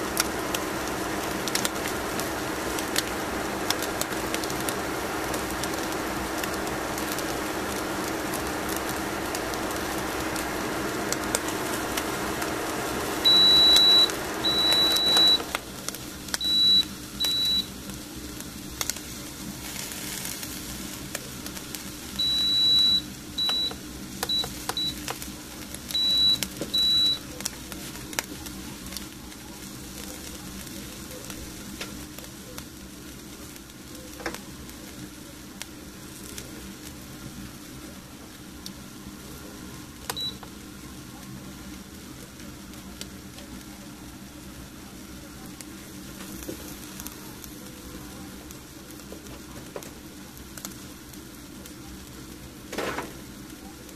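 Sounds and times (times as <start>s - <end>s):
appliance hum: 0.0s - 53.9s.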